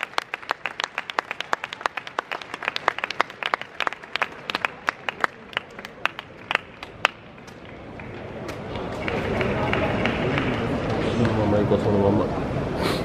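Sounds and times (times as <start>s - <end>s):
spectators clapping: 0.0s - 12.0s.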